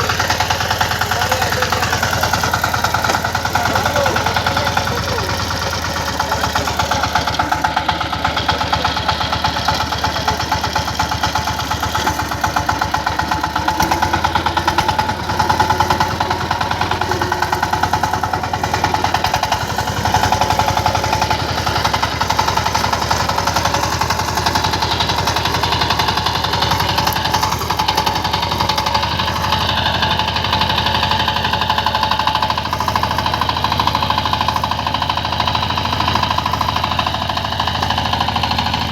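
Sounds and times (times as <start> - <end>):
diesel engine knocking steadily: 0.0 - 38.9.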